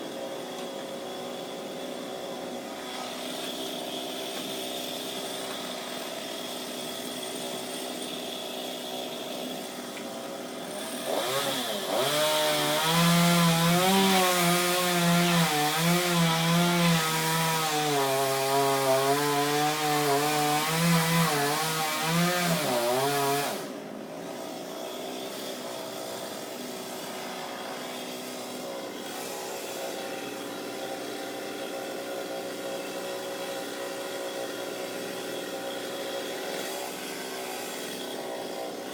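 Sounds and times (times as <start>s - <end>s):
chainsaw idling and cutting: 0.0s - 38.9s.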